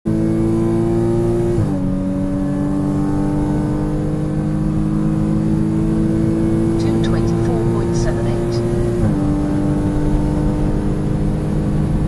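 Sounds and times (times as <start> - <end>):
car engine accelerating: 0.1 - 12.0.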